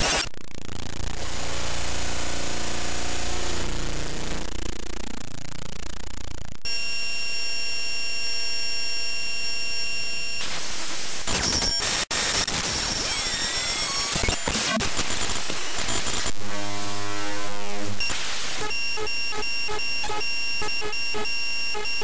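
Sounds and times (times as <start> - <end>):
harsh static and buzz: 0.0 - 8.4, 9.2 - 22.0.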